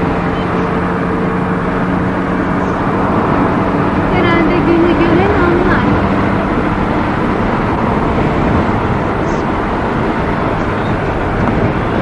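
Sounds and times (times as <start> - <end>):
car road and wind noise: 0.0 - 12.0.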